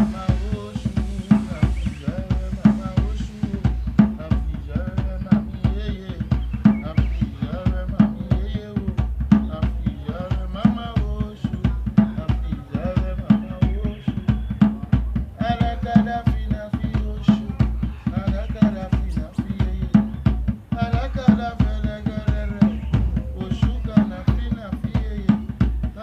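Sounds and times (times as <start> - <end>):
drums beating a steady rhythm: 0.0 - 26.0
voices singing a chant: 0.0 - 26.0.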